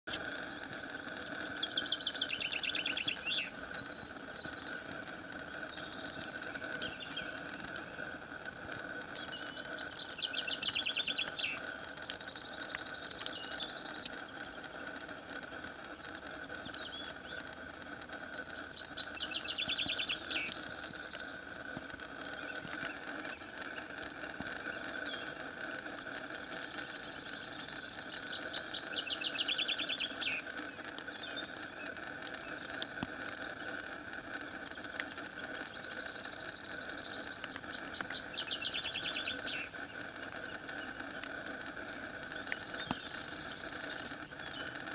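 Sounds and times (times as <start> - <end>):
high bird calls: 0.1 - 44.9
steady background hum: 0.1 - 44.9.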